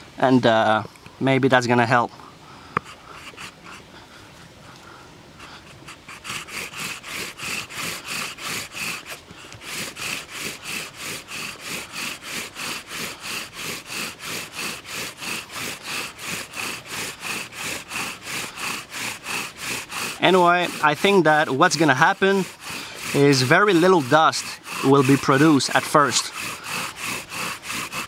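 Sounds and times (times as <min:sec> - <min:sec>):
wooden spindle grinding in hearth board: 0:02.8 - 0:04.0, 0:05.4 - 0:28.0.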